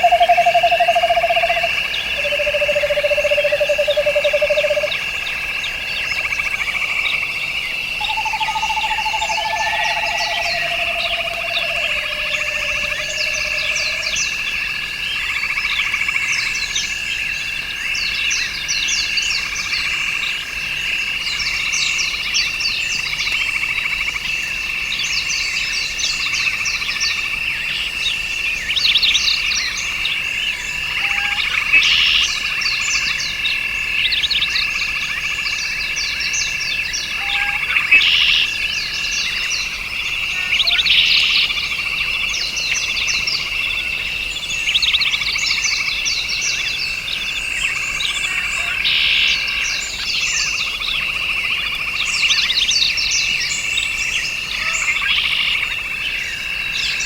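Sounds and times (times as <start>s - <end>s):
frogs and insects trilling: 0.0s - 57.0s.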